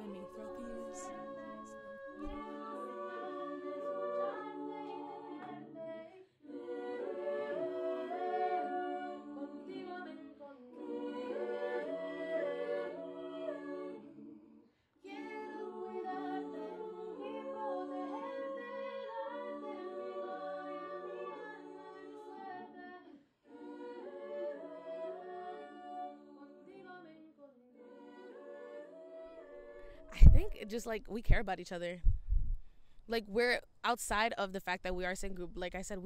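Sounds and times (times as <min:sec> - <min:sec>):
a cappella group singing in harmony: 0:00.0 - 0:30.9.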